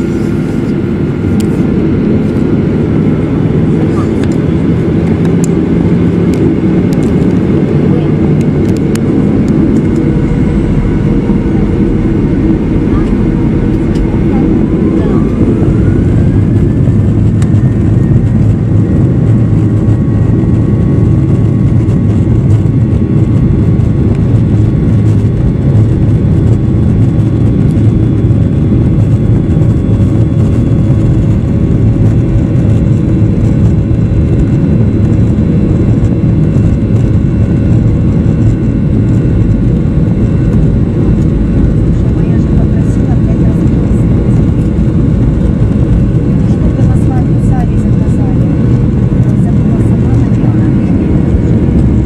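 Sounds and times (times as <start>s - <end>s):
high whining engine tones: 0.0s - 52.0s
jet engines roaring in cabin: 0.0s - 52.0s.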